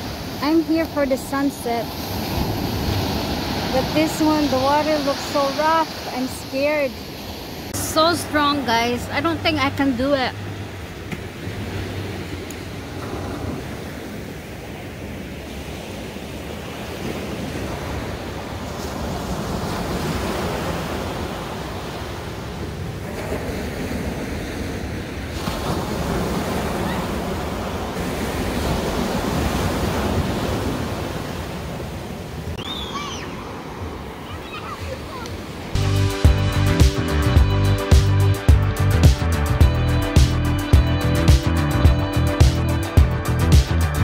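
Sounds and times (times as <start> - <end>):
ocean surf breaking on beach: 0.0 - 35.8.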